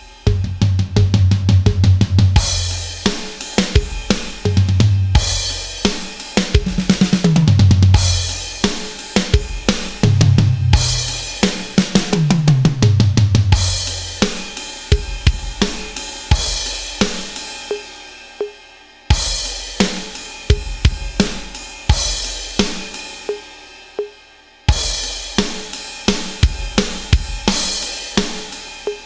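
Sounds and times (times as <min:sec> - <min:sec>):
electronic drum fill: 0:00.0 - 0:29.0
rock drum beat: 0:00.0 - 0:29.0
crash cymbal: 0:02.4 - 0:07.1, 0:07.9 - 0:12.2, 0:13.5 - 0:29.0.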